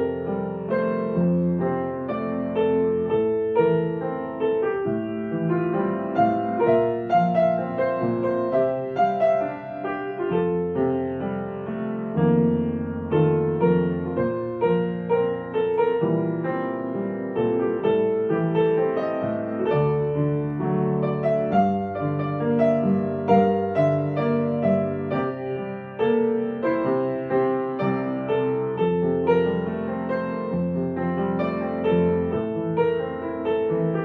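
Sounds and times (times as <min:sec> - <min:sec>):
soft piano music: 0:00.0 - 0:34.0.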